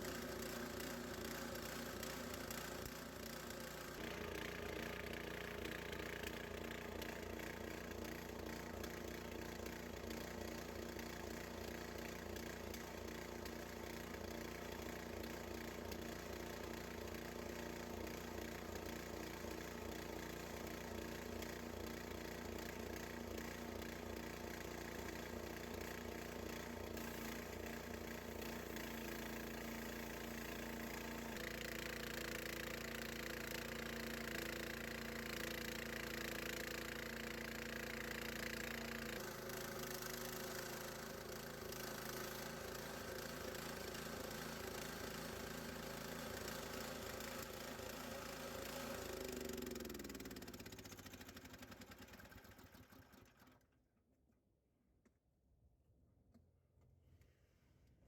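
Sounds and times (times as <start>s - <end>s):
small gas engine running: 0.0s - 53.8s.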